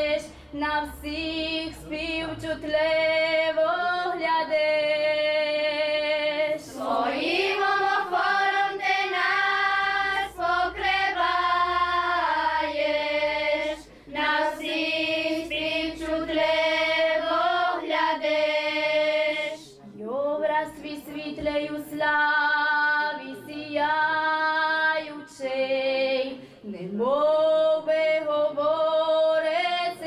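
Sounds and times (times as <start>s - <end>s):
girls' choir singing a hymn: 0.0s - 30.0s.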